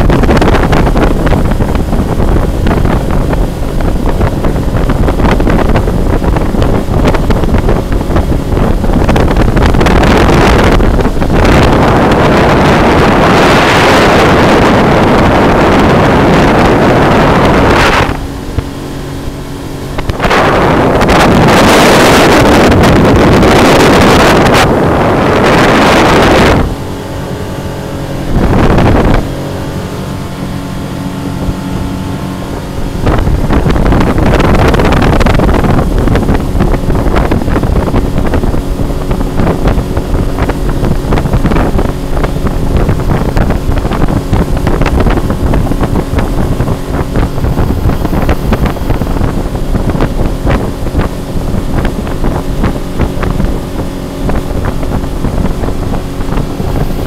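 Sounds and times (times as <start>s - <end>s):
motorboat engine humming: 0.0s - 57.0s
water rushing past hull: 0.0s - 57.0s
wind rushing on microphone: 0.0s - 57.0s.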